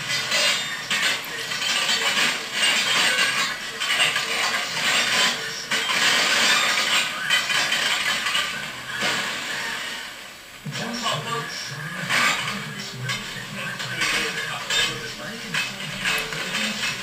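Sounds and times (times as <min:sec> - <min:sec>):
steel plates dragging: 0:00.0 - 0:10.2, 0:12.0 - 0:17.0.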